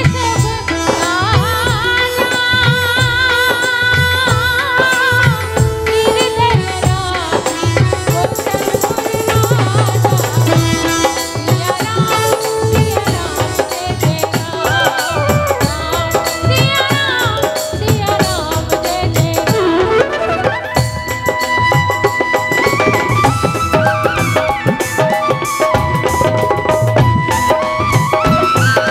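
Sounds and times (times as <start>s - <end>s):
hand drums beat: 0.0s - 28.9s
woman singing amplified: 0.0s - 28.9s.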